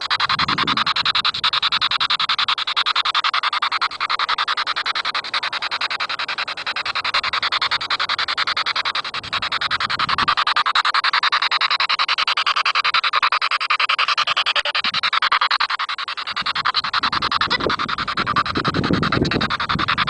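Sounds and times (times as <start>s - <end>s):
chopped radio static bursts: 0.0s - 20.0s.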